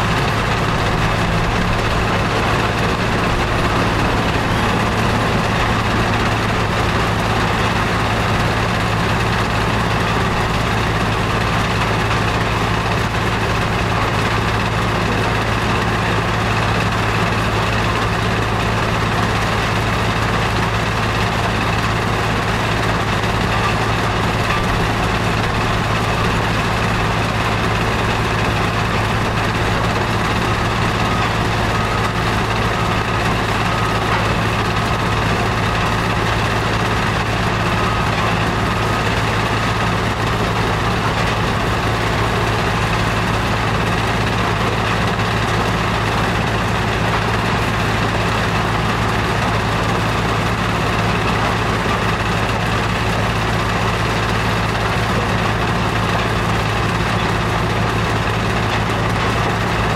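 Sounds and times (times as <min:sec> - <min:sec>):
heavy engine running steadily: 0:00.0 - 0:59.9.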